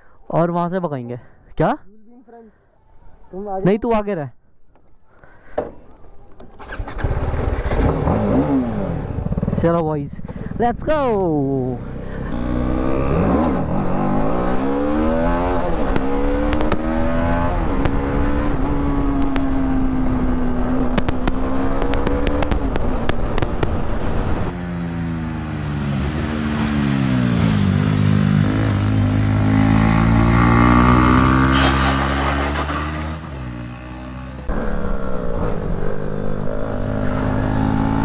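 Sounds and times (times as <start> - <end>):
motorcycle engine accelerating: 6.6 - 38.0.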